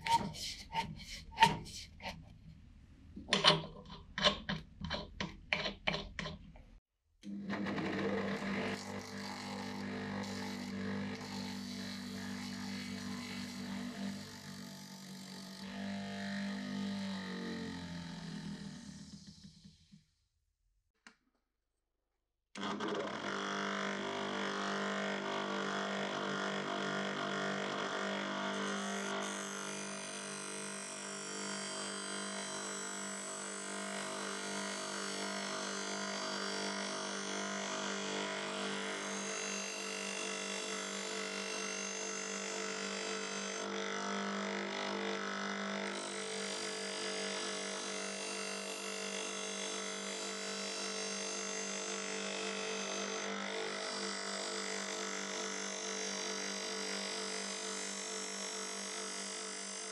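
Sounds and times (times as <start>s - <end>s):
bench grinder motor hum: 7.2s - 19.8s, 22.6s - 59.8s.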